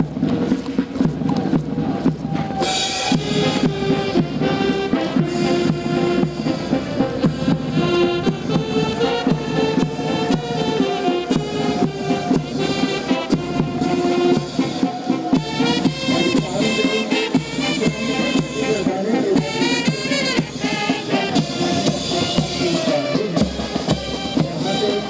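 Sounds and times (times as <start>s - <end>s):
held wind instrument notes: 0.0s - 25.0s
military band playing a march: 0.0s - 25.0s
steady drum beat: 0.0s - 25.0s.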